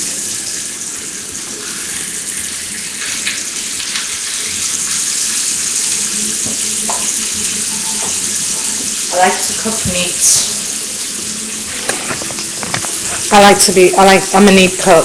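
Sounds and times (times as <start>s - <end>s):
hot dogs sizzling in a pan: 0.0s - 15.0s.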